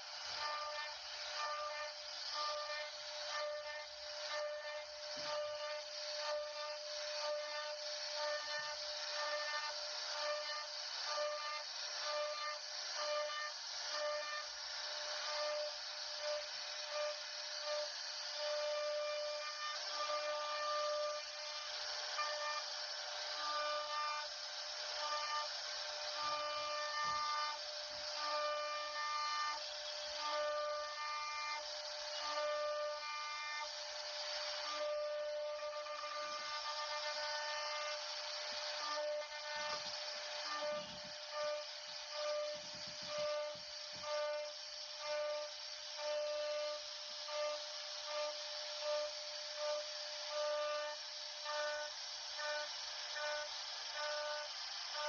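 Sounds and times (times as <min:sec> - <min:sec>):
rasping wood cutting: 0:00.0 - 0:55.0
router spindle whine: 0:00.0 - 0:55.0.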